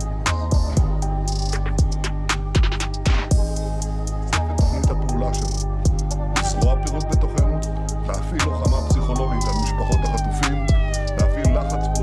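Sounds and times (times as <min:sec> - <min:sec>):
music with drum beat: 0:00.0 - 0:07.6, 0:08.6 - 0:11.8
siren-like wail: 0:00.0 - 0:12.0.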